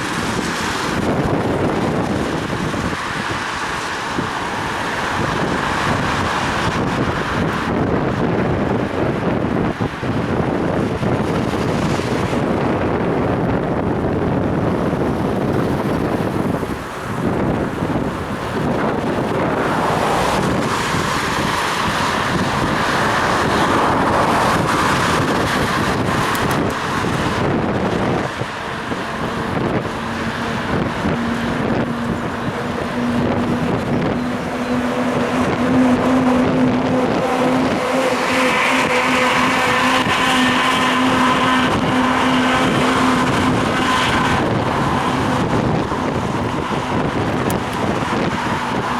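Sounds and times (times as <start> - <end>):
road and traffic noise: 0.0 - 48.9
wind buffeting microphone: 0.0 - 48.9.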